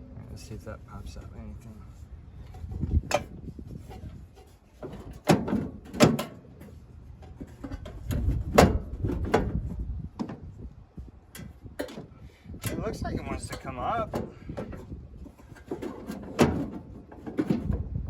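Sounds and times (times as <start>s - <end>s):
sheet metal knocks and clunks: 2.6s - 10.5s, 11.4s - 17.9s.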